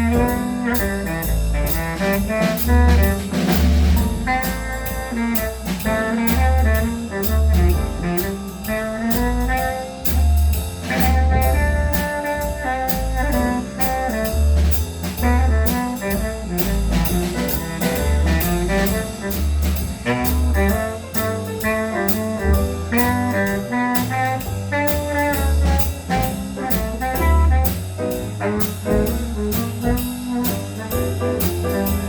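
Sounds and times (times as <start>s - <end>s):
brass and saxophones: 0.0s - 10.2s, 10.9s - 14.5s, 15.2s - 32.0s
drum kit beat: 0.0s - 32.0s.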